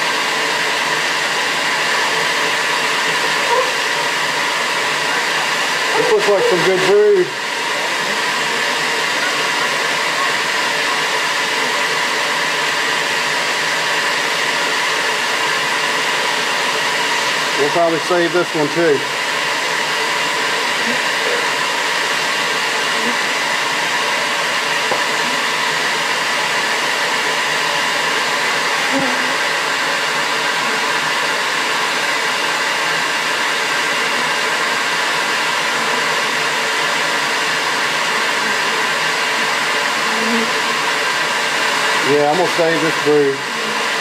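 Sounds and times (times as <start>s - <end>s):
vacuum motor whirring: 0.0s - 44.0s.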